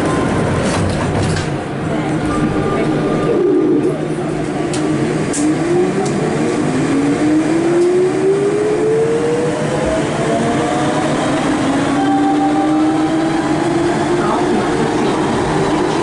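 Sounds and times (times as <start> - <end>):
metro train traction drive whining: 0.0 - 16.0
train car running noise: 0.0 - 16.0.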